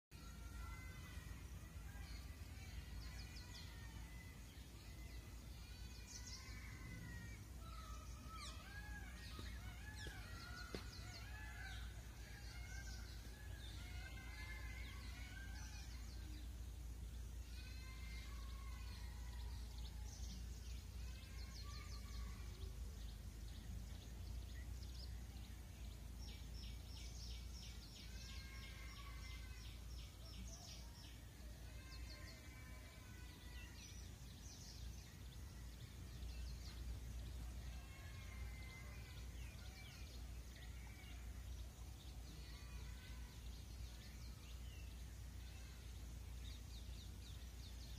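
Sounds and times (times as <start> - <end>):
small birds chirping: 0.1 - 47.9.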